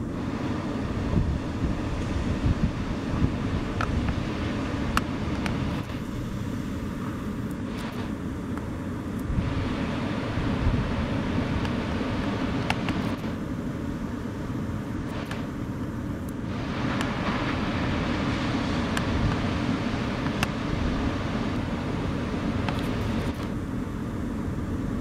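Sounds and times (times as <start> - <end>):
wind buffeting microphone: 0.0 - 8.2, 9.2 - 13.4, 14.9 - 23.6
breaking surf roar: 0.0 - 25.0.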